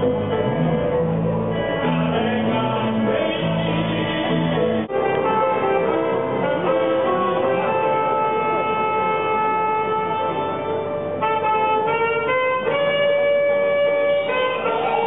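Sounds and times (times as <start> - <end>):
long held music notes: 0.0 - 15.0.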